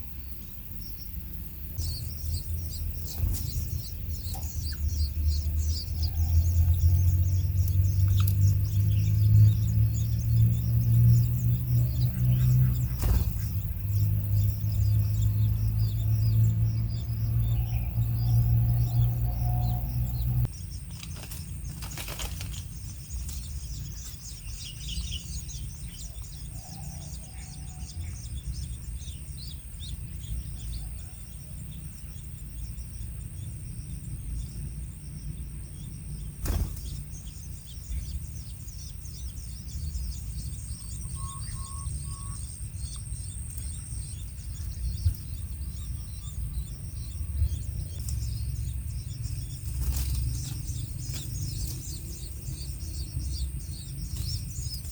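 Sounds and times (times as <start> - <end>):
low background rumble: 0.0 - 54.9
small birds chirping: 0.0 - 54.9.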